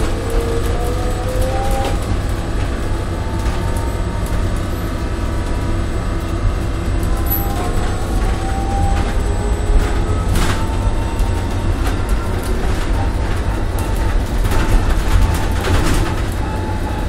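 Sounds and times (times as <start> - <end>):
bus engine and road rumble: 0.0 - 17.0
rising engine whine: 0.0 - 17.0.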